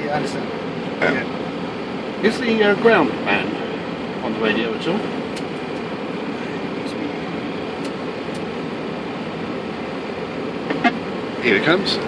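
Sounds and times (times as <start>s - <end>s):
cockpit hiss and hum: 0.0s - 12.0s.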